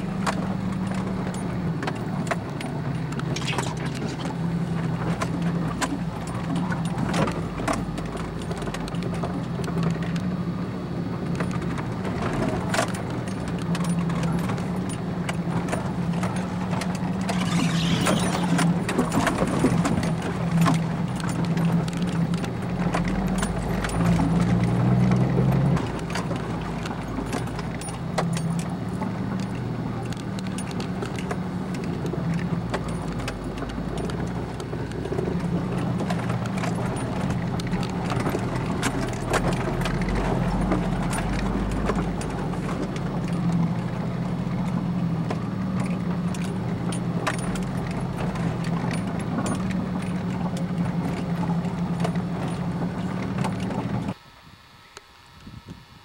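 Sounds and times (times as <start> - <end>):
vehicle rattling and clattering: 0.0 - 54.2
vehicle engine drone: 0.0 - 56.0.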